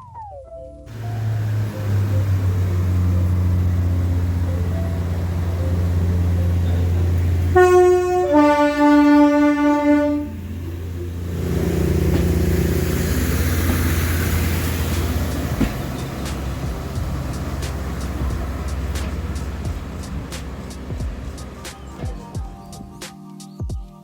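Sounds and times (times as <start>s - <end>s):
locomotive two-tone horn: 0.9s - 22.2s
locomotive engine hum: 0.9s - 23.0s.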